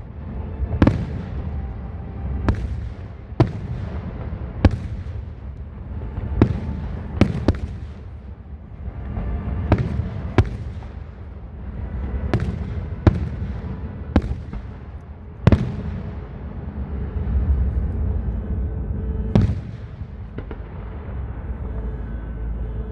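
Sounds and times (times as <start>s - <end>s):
low rumble: 0.0s - 22.9s
fireworks bangs: 0.4s - 16.6s, 19.3s - 22.0s.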